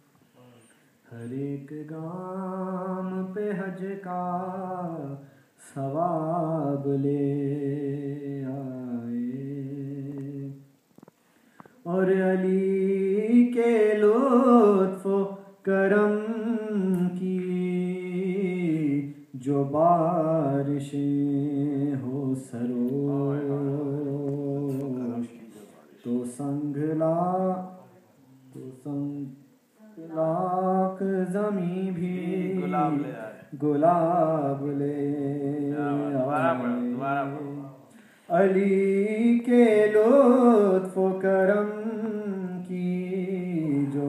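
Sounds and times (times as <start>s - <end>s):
man singing unaccompanied: 0.4s - 10.7s, 11.8s - 44.0s.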